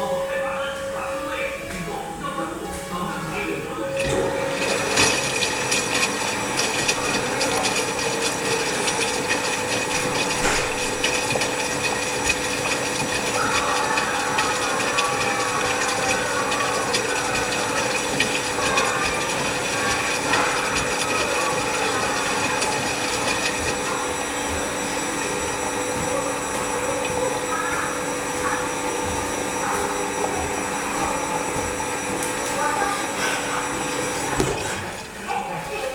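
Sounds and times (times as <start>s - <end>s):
washing machine running: 0.0s - 35.9s.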